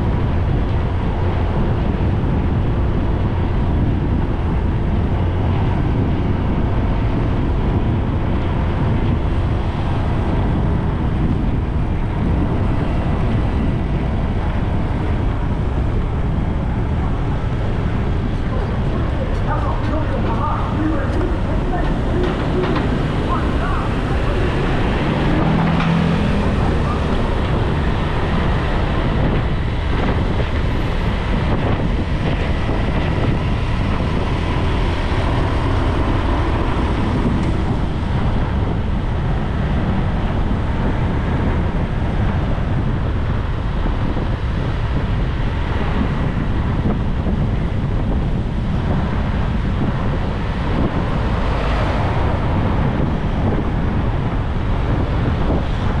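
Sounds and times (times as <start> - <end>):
road and traffic noise: 0.0 - 56.0
wind buffeting microphone: 0.0 - 56.0.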